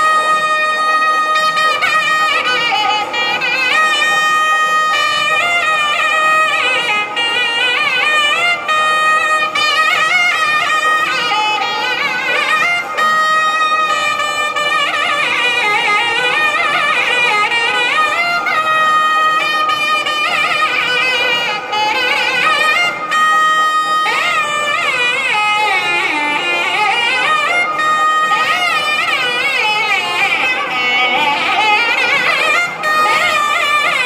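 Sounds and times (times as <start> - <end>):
double-reed pipes playing melody: 0.0 - 34.0.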